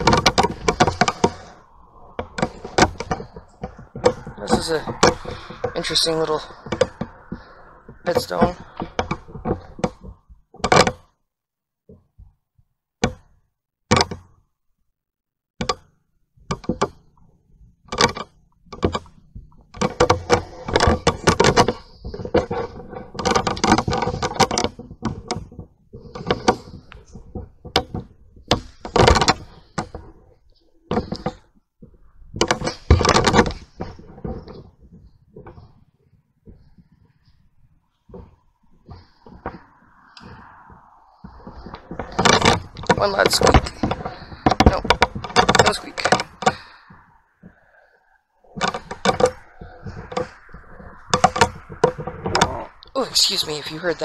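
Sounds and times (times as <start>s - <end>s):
clattering and rustling: 0.0s - 11.2s, 15.6s - 54.0s
tripod knocks and thumps: 0.0s - 11.2s, 13.0s - 14.4s, 15.6s - 17.2s, 17.8s - 35.8s, 36.4s - 54.0s.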